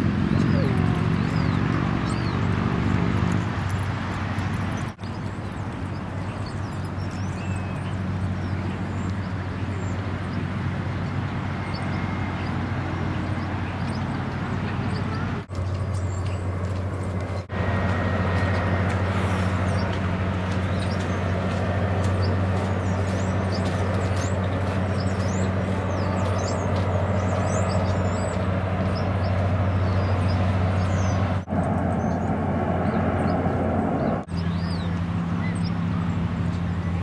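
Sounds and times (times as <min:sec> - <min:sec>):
low hum of distant traffic: 0:00.0 - 0:37.0.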